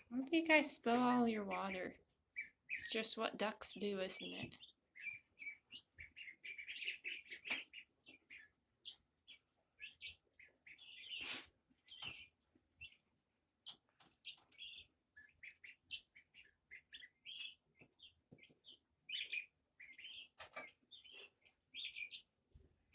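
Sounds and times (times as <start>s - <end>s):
birds chirping: 0.0s - 22.4s.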